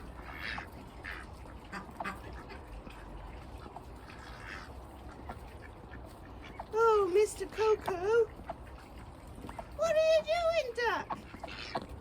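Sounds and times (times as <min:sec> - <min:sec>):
ducks quacking: 0:00.0 - 0:09.7, 0:10.8 - 0:12.0.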